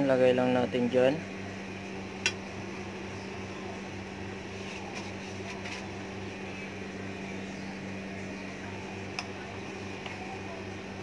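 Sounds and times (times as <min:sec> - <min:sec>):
cooktop fan hum: 0:00.0 - 0:11.0.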